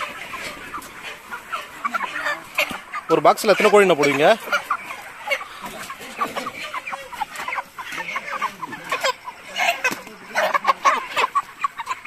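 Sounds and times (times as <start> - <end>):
chicken squawk: 0.0 - 12.0
chickens clucking: 0.0 - 12.0.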